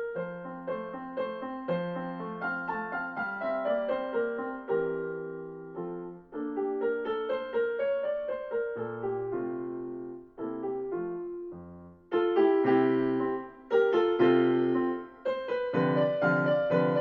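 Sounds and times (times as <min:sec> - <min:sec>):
digital piano chords and melody: 0:00.0 - 0:17.0.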